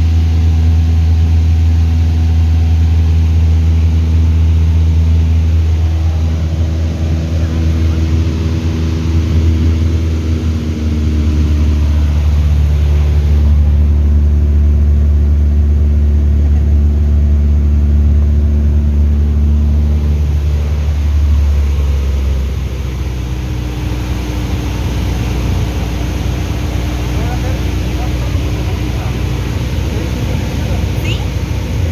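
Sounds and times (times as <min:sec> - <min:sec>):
light aircraft engine and propeller: 0:00.0 - 0:31.9.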